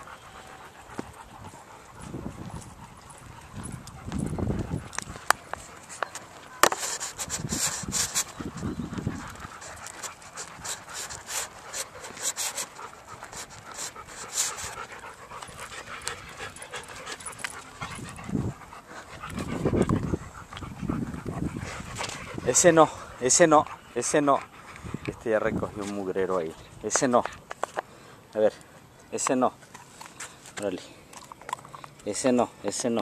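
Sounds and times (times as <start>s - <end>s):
dog panting: 0.0s - 27.4s.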